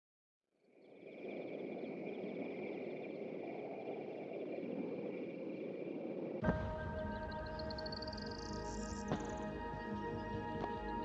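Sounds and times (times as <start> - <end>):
insects trilling: 0.6 - 11.0
open-air ambience: 0.6 - 11.0.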